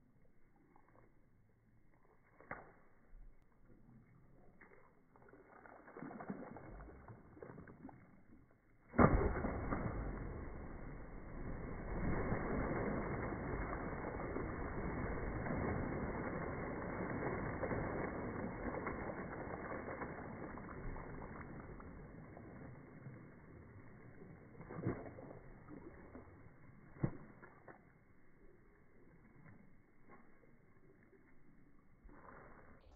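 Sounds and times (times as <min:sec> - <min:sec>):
dog splashing in pool: 0:00.2 - 0:32.9.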